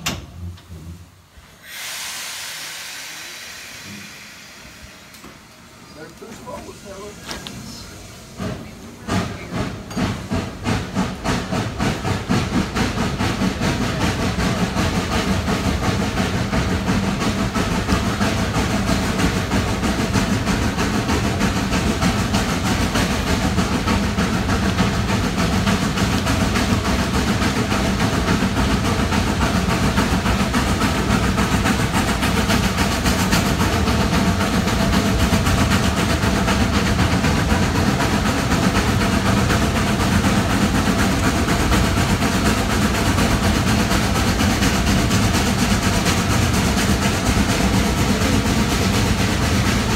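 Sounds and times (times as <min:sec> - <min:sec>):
steam locomotive chugging: 0:00.0 - 0:49.9.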